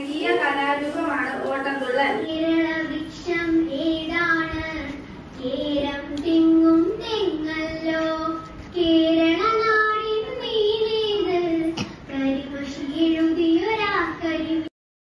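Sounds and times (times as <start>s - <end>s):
girl singing into microphone: 0.0s - 14.7s.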